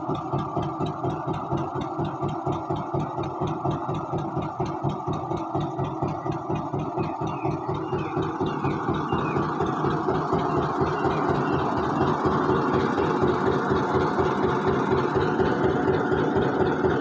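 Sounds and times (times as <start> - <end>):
tractor engine pulsing: 0.0 - 17.0.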